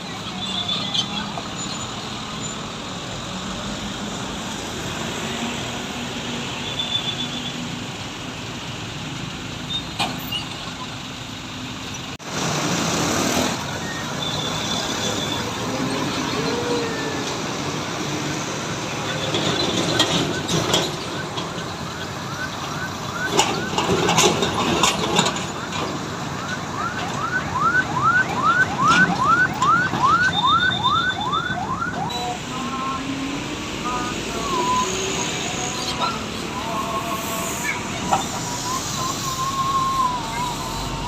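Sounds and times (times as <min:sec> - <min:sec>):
heavy trucks going by: 0:00.0 - 0:41.0.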